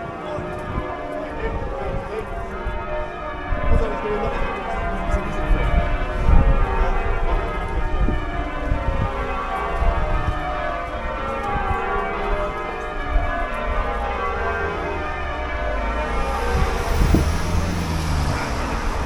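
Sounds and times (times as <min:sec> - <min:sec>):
cathedral bells pealing: 0:00.1 - 0:19.0.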